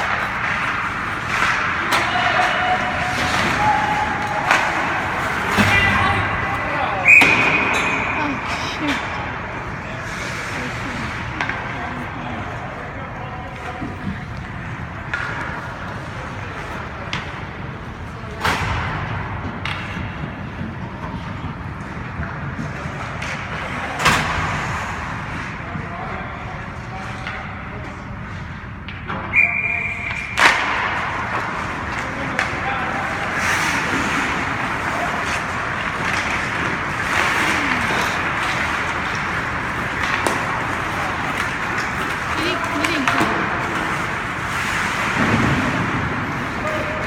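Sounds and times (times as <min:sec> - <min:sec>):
hockey stick knocks and clacks: 0:00.0 - 0:08.2, 0:08.9 - 0:29.4, 0:30.0 - 0:47.0.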